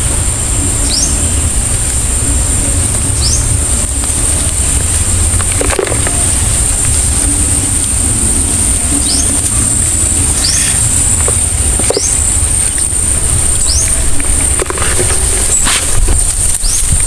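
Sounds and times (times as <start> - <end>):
heavy low rumble: 0.0 - 17.0
high-pitched drone: 0.0 - 17.0.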